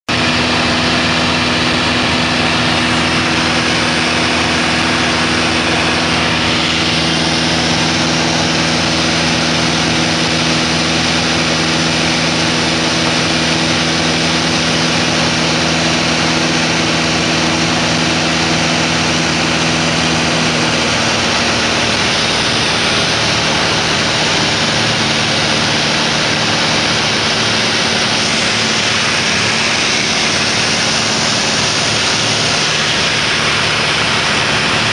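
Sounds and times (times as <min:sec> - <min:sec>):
propeller aircraft engine drone: 0:00.0 - 0:34.9
rushing airflow: 0:00.1 - 0:34.9.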